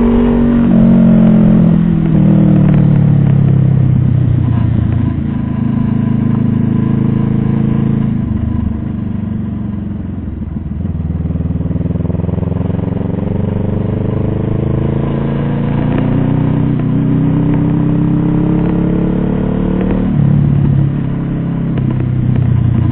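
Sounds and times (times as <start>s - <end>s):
vehicle engine accelerating: 0.0s - 22.9s.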